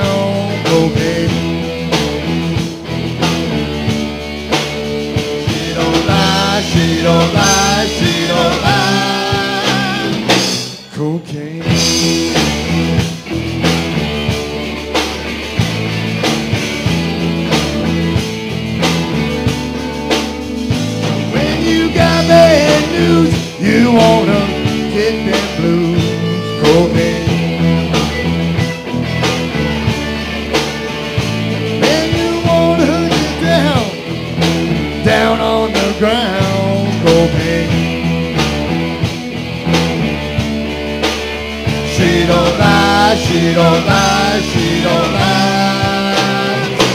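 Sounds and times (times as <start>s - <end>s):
rock band playing: 0.0s - 46.9s.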